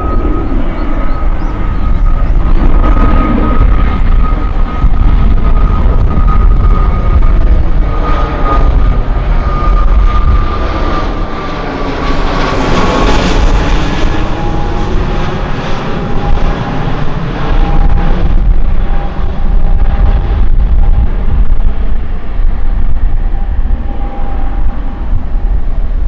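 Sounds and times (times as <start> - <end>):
jet airliner engine whine: 0.0 - 26.0
wind buffeting microphone: 0.0 - 26.0.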